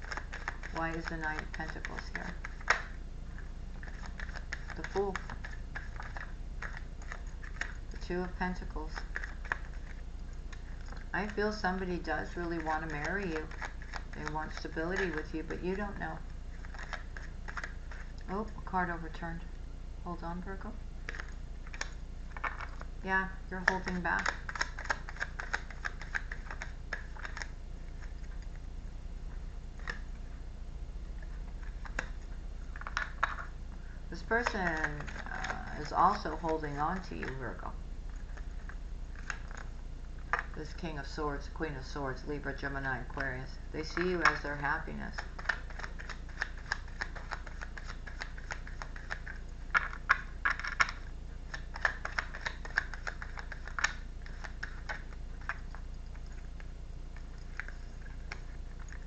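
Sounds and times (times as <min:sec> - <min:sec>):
cards being shuffled: 0:00.0 - 0:18.2, 0:21.0 - 0:22.9, 0:23.5 - 0:28.5, 0:29.8 - 0:30.2, 0:31.2 - 0:33.5, 0:34.1 - 0:40.8, 0:42.5 - 0:55.9
low electrical hum: 0:00.0 - 0:59.0.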